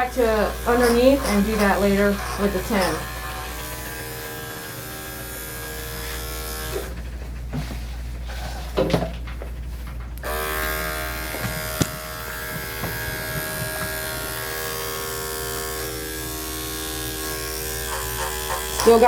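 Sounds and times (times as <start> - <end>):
electric clippers whining: 0.0 - 7.6, 10.2 - 19.0.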